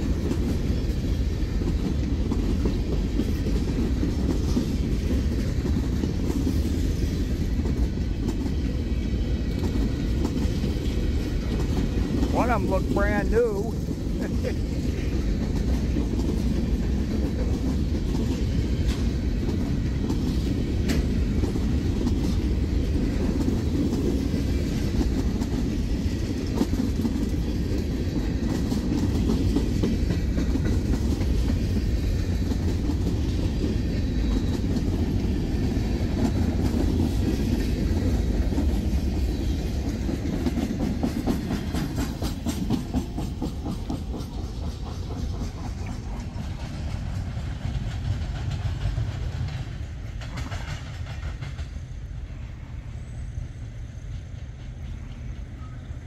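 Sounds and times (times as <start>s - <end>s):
wheel clacks: 0.0s - 51.8s
steel wheels on rail: 0.0s - 56.0s.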